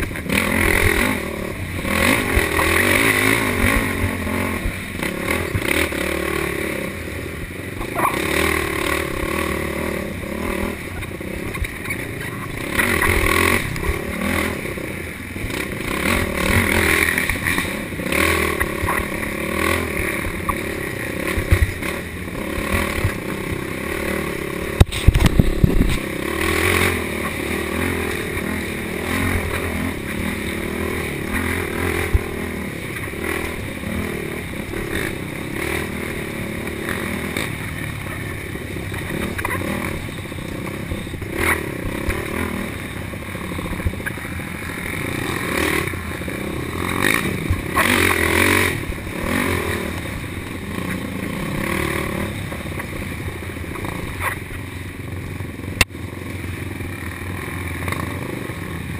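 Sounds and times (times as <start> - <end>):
quad engine revving: 0.0 - 58.9.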